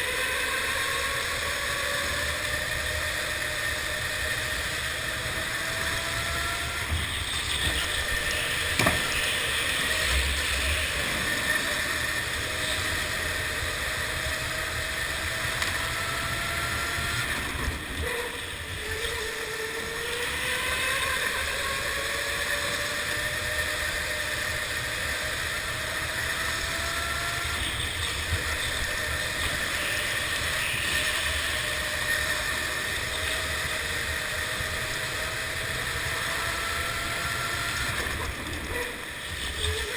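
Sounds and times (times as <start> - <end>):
go-kart motor whine: 0.0 - 39.9.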